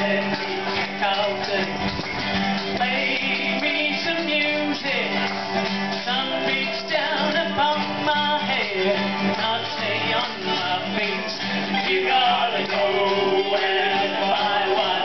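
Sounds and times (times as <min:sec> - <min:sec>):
acoustic folk band playing: 0:00.0 - 0:15.0
mandolin: 0:00.0 - 0:15.0
strummed acoustic guitars: 0:00.0 - 0:15.0.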